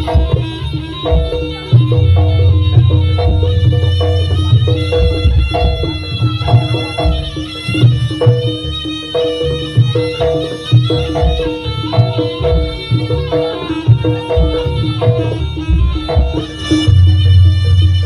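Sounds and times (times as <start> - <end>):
drums beating steady rhythm: 0.0 - 18.0
pitched melody line: 0.0 - 18.0.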